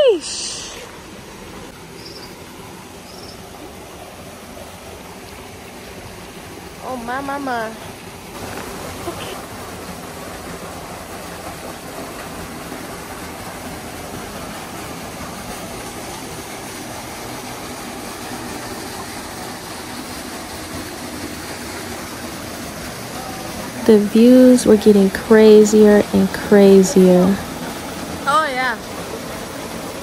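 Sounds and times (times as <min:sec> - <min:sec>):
fast-flowing stream water: 0:02.7 - 0:30.0.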